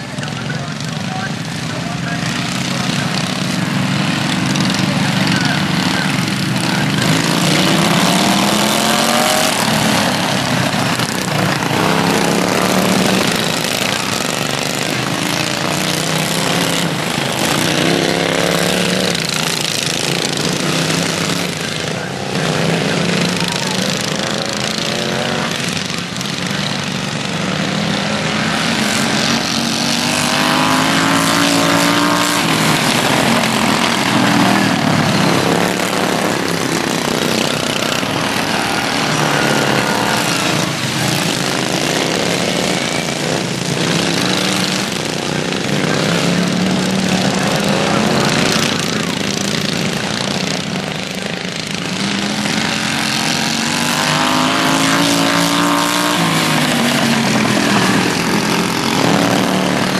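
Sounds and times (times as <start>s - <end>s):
racing lawn mower engines: 0.0s - 59.9s.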